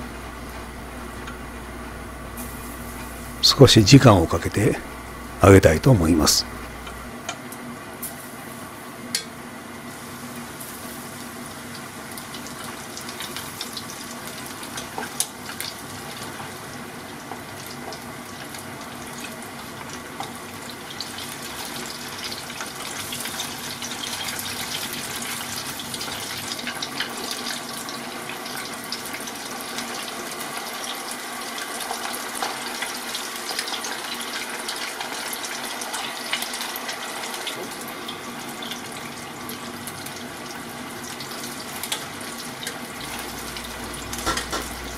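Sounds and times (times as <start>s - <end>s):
oil sizzling and bubbling: 0.0s - 44.9s.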